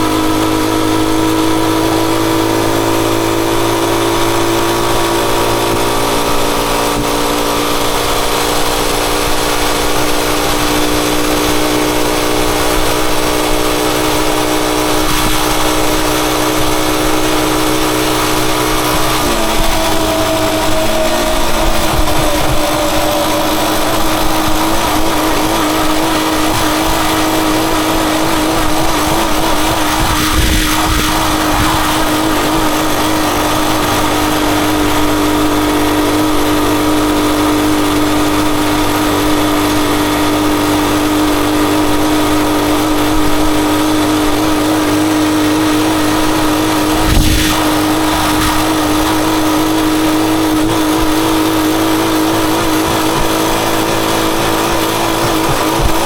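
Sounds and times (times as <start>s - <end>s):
motorcycle engine running: 0.0s - 56.0s
wind noise: 3.9s - 56.0s.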